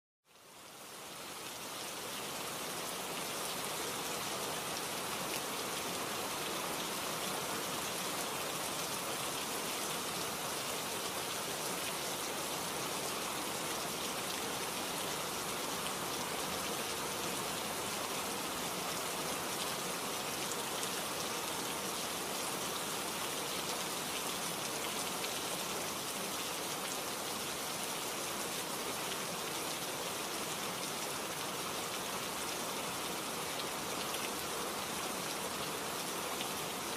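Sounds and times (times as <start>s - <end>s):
steady rain: 0.2s - 36.9s.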